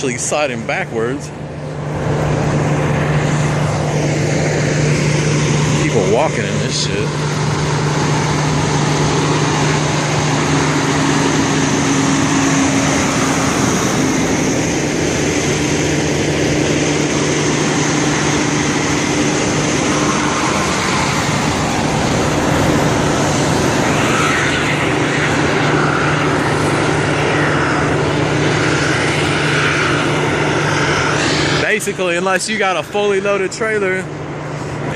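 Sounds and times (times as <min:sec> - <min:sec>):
vehicle engine humming: 0:00.0 - 0:34.9.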